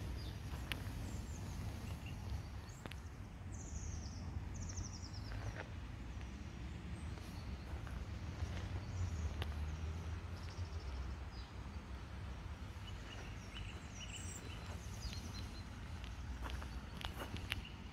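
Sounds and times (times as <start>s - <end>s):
steady low rumble: 0.0s - 17.9s.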